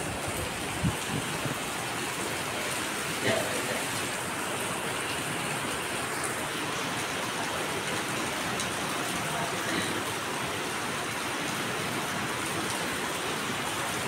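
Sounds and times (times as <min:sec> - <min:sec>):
rain on wet pavement: 0:00.0 - 0:14.0.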